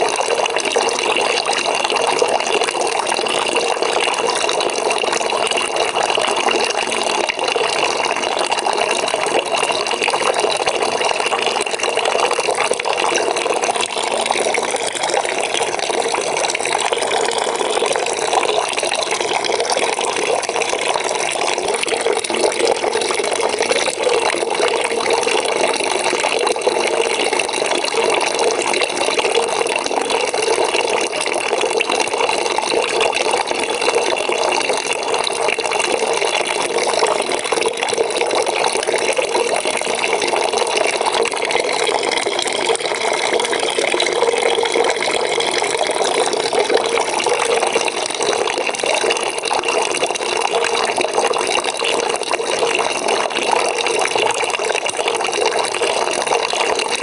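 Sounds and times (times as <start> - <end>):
tap water filling a bucket: 0.0 - 57.0.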